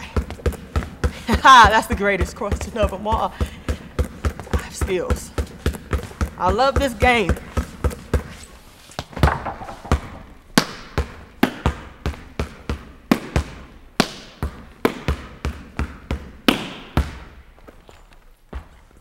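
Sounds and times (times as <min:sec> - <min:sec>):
basketball bouncing on wooden floor: 0:00.0 - 0:08.3, 0:09.0 - 0:19.0.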